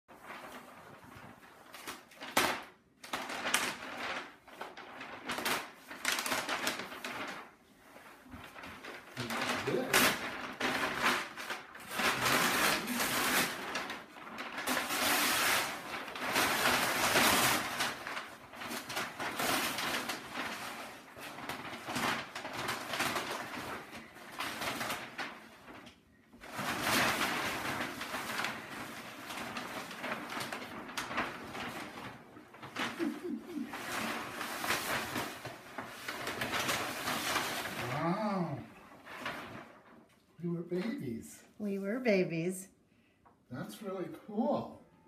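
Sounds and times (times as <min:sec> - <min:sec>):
paper rustling and tearing: 0:00.1 - 0:40.1.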